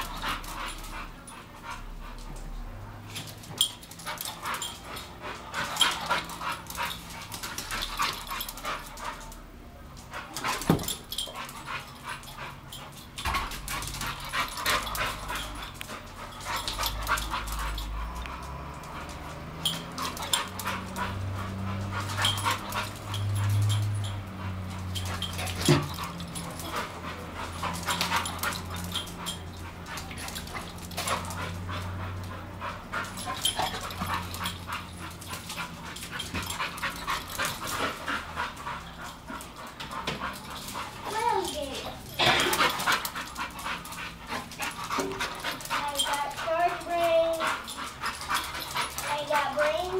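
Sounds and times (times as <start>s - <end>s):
dog panting: 0.0s - 49.9s
paw clicks and scuffles: 0.0s - 49.9s.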